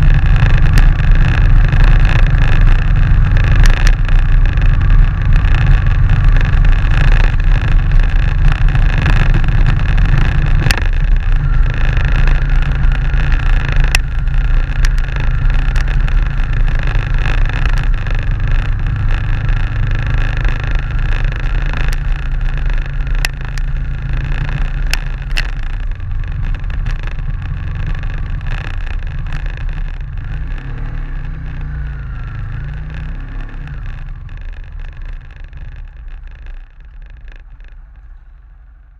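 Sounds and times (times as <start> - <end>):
sharp ticks of stones: 0.0 - 38.2
motorcycle engine rumbling: 0.0 - 38.9.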